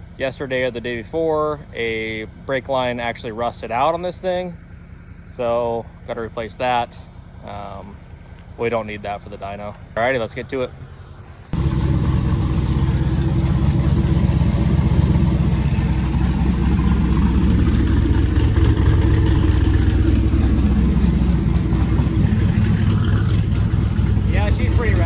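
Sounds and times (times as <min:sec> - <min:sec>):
engine idling loudly: 0:00.0 - 0:25.0.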